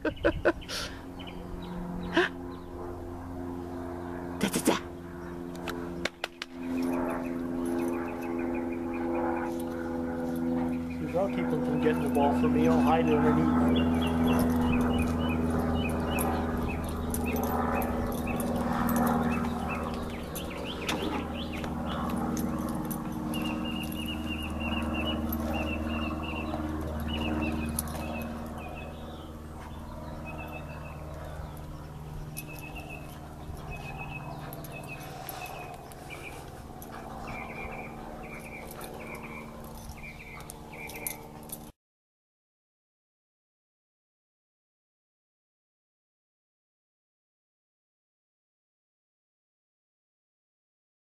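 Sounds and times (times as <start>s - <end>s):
small birds chirping: 0.0s - 41.7s
steady low hum: 0.0s - 41.7s.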